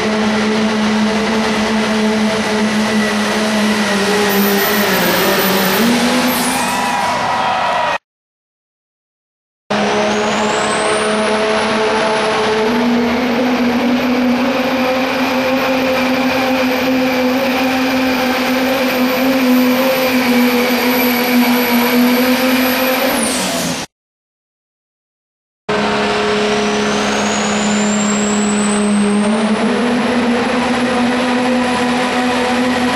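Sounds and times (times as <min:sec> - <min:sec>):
diesel engine running flat out: 0:00.0 - 0:06.8, 0:09.7 - 0:23.9, 0:25.7 - 0:32.9
turbocharger whine: 0:00.0 - 0:06.8, 0:09.7 - 0:23.9, 0:25.7 - 0:32.9.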